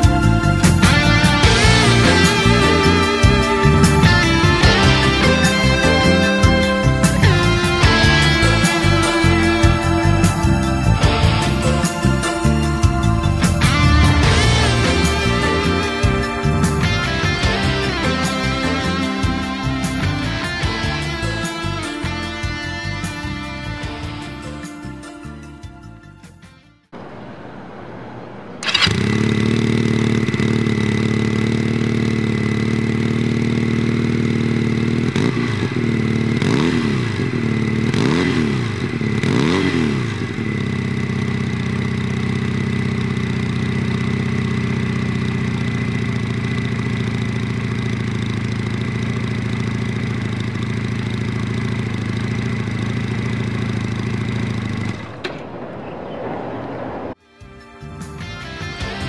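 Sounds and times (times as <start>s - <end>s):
motorcycle engine idling and revving: 0.0s - 57.2s, 57.8s - 59.0s.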